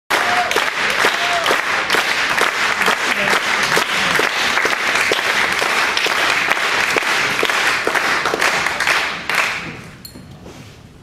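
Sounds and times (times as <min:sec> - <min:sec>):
audience applauding: 0:00.1 - 0:10.0.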